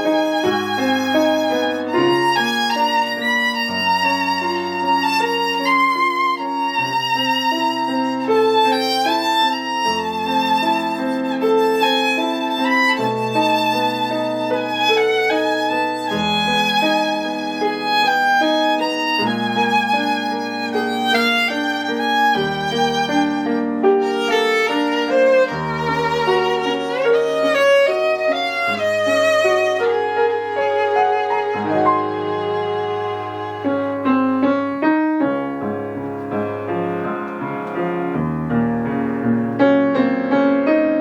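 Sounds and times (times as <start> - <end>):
violin melody with vibrato: 0.0 - 34.9
piano accompaniment: 0.0 - 41.0.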